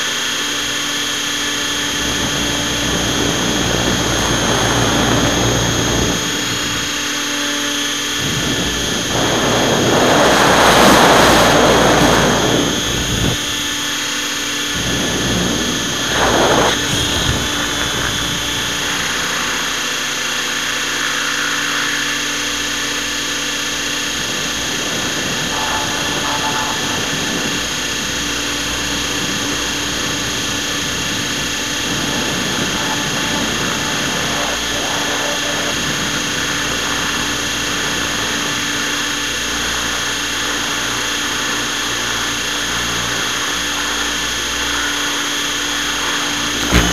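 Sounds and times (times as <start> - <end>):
model helicopter motor whine: 0.0 - 46.9
rushes of noise: 1.0 - 46.9.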